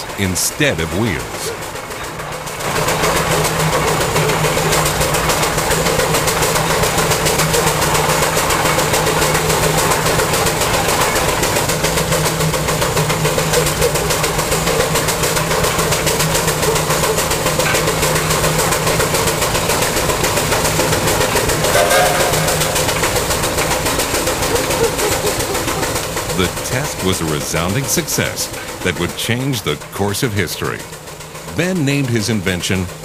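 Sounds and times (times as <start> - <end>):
steady low hum: 0.0 - 33.0
steam engine clatter: 0.0 - 33.0.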